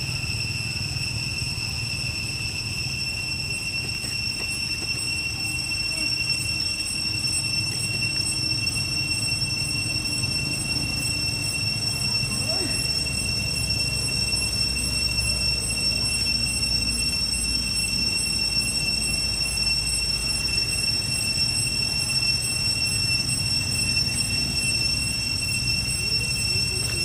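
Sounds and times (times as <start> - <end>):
high-pitched whine: 0.0 - 27.0.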